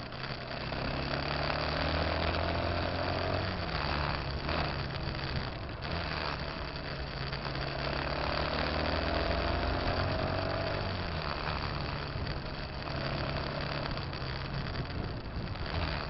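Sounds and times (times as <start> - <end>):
road and wind noise: 0.0 - 16.0
vehicle engine running: 0.0 - 16.0.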